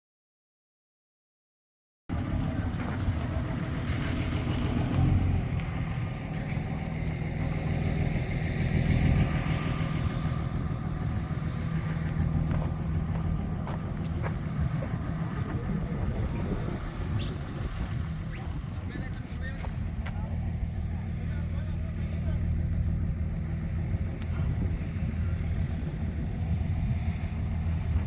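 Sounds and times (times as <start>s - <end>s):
vehicle engine running: 2.1s - 28.0s.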